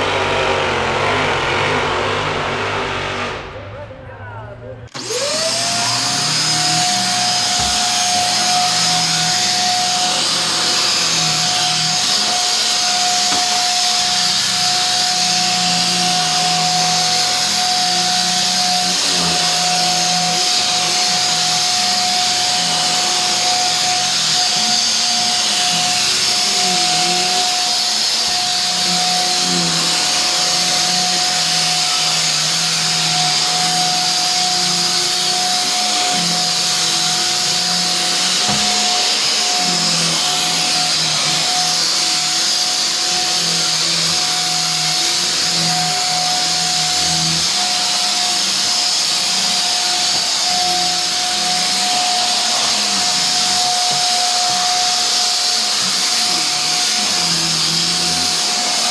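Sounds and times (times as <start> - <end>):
vacuum cleaner running: 0.0 - 3.6, 4.9 - 58.9.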